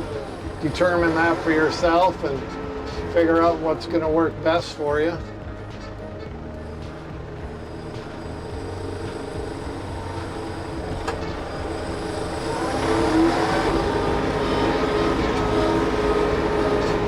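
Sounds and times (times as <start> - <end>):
tractor engine under load: 0.0 - 17.0
wavering whine: 0.0 - 17.0.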